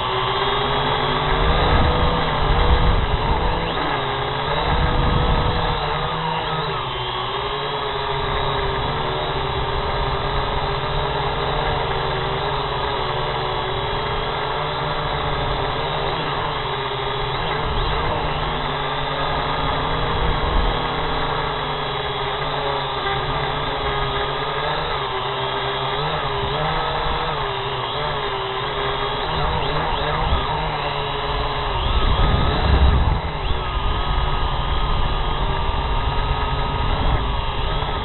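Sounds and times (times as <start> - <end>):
drone propellers whining: 0.0 - 38.0.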